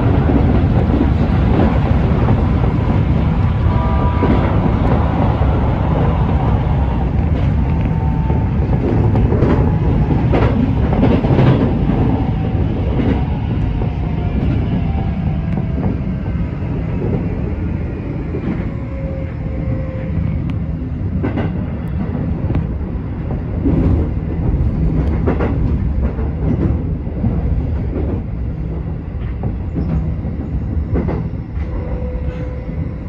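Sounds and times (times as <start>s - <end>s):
rail joints clacking: 0.0s - 17.6s, 20.4s - 33.0s
train wheels rumbling on rail: 0.0s - 33.0s.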